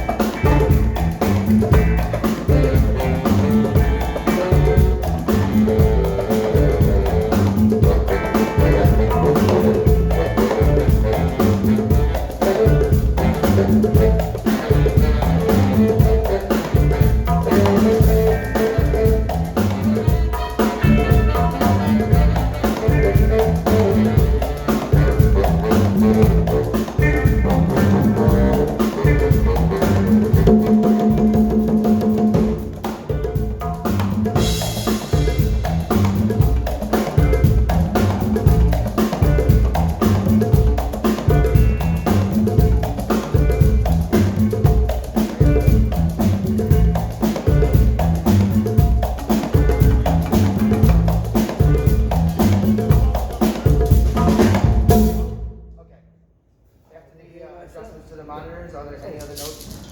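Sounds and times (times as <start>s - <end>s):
live band playing dance groove: 0.0s - 55.6s.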